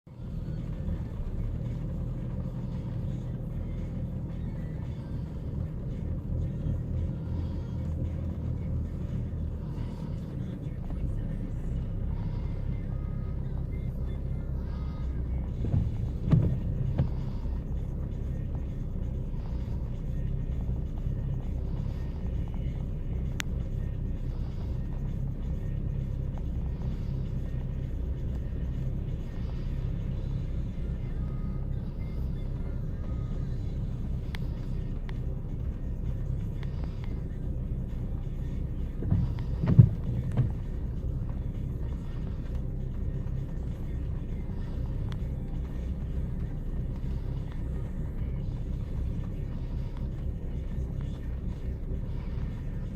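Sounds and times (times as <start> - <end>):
car engine idling roughly: 0.0 - 52.9
engine bumps: 0.0 - 52.9.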